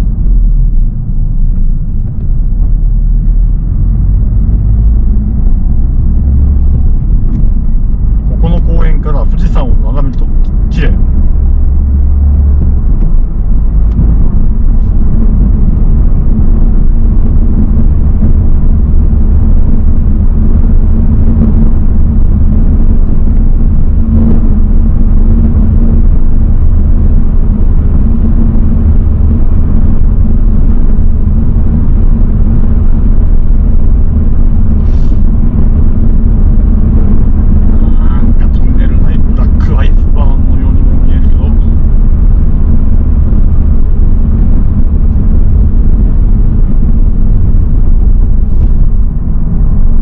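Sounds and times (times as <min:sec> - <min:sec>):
car engine cruising: 0:00.0 - 0:50.0
tyre and road rumble: 0:00.0 - 0:50.0.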